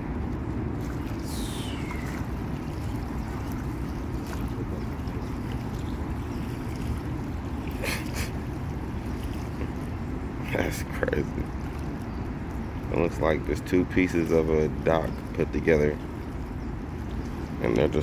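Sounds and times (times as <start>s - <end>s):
water moving: 0.0s - 18.0s
wind rumble on microphone: 0.0s - 18.0s.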